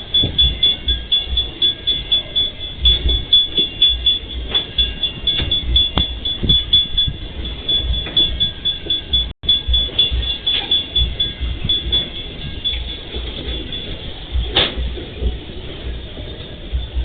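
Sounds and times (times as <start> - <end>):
level crossing warning signal: 0.0 - 17.0
train wheels clattering: 0.0 - 17.0.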